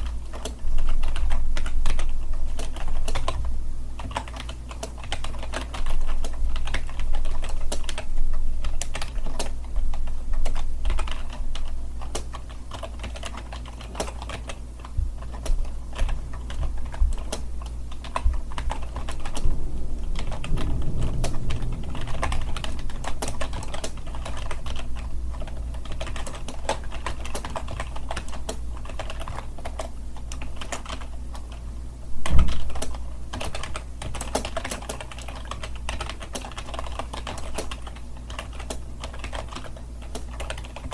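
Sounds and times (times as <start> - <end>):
keyboard typing: 0.0 - 40.9
steady low hum: 0.0 - 40.9.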